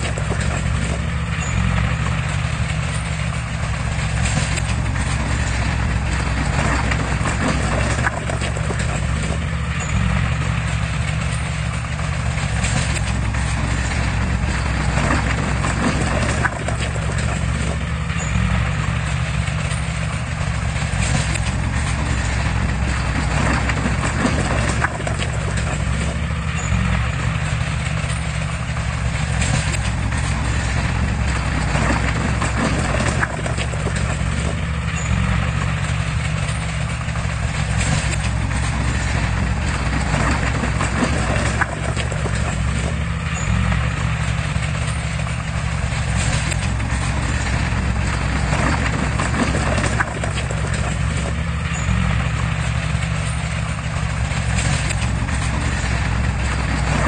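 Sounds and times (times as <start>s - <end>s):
bulldozer diesel engine rattling: 0.0s - 57.0s.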